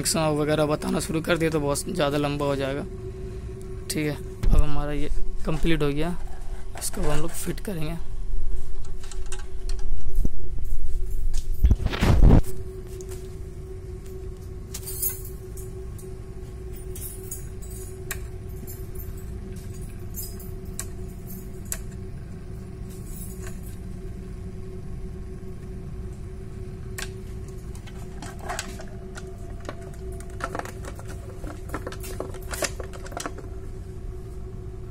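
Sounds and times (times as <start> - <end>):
faint steady tone: 0.0 - 6.3, 12.4 - 34.9
low machinery hum: 0.0 - 34.9.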